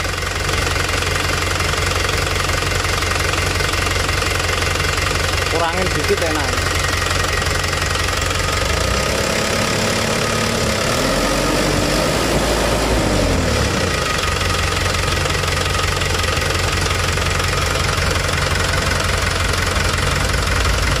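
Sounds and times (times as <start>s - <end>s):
diesel engine idling and revving: 0.0s - 21.0s.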